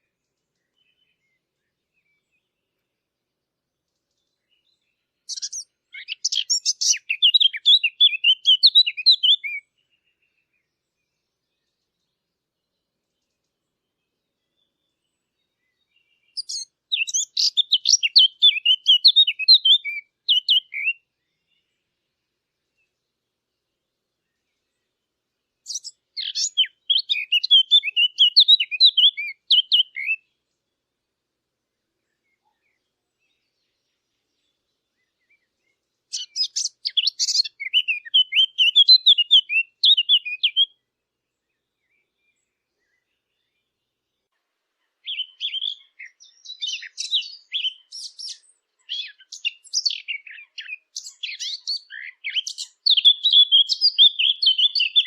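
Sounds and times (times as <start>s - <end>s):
warbler singing: 0.0s - 55.0s.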